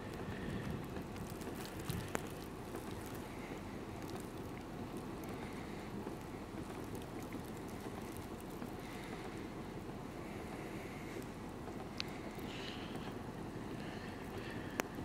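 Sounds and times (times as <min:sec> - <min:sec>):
wind in a snowstorm: 0:00.0 - 0:15.0
faint ticks: 0:00.1 - 0:09.4, 0:11.0 - 0:15.0.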